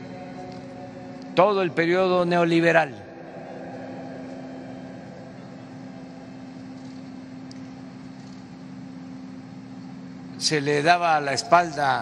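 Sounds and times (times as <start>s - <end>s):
hangar background hum: 0.0s - 12.0s.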